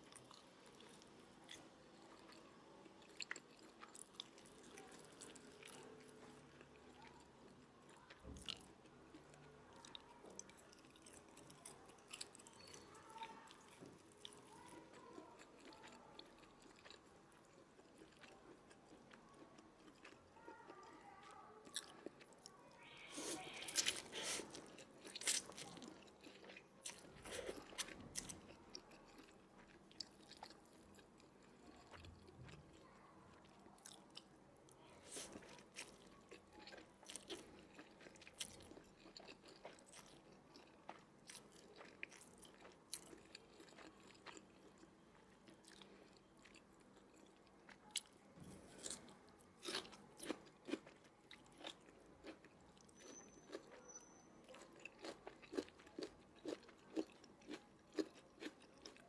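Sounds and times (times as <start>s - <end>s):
person chewing noodles: 0.0s - 21.0s, 21.6s - 59.0s.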